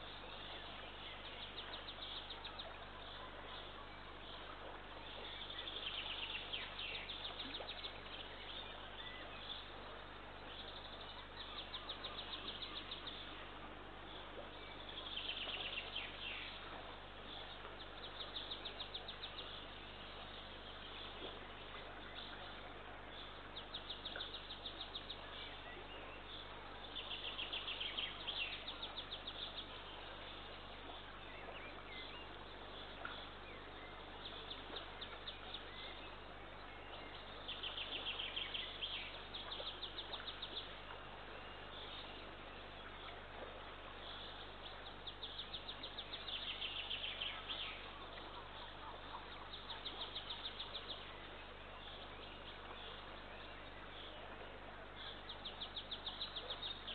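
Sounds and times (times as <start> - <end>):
faint outdoor hiss: 0.0 - 56.9.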